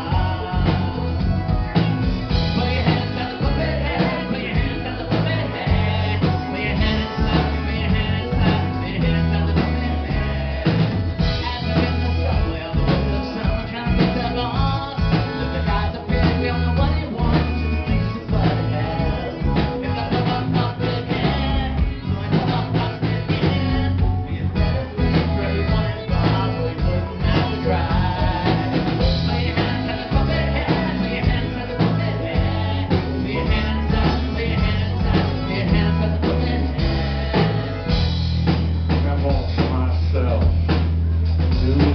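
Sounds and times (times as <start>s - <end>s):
man singing lead vocal: 0.0s - 40.8s, 41.5s - 41.9s
live rock band: 0.0s - 41.9s.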